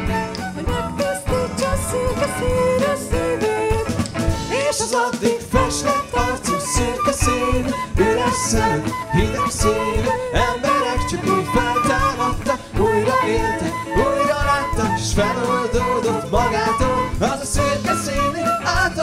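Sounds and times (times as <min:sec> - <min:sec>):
bass guitar: 0:00.0 - 0:19.0
electric and acoustic guitars: 0:00.0 - 0:19.0
man and woman singing: 0:00.9 - 0:19.0.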